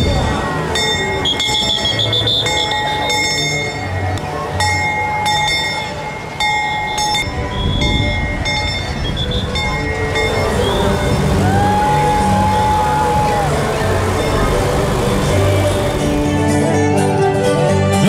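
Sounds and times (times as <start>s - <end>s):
road train bell ringing: 0.0s - 17.0s
street crowd noise: 0.0s - 18.0s.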